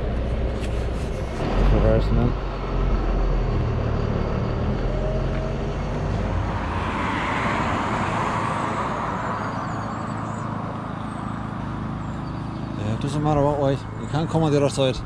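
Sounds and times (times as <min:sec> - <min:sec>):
road vehicle passing: 0:00.0 - 0:15.0.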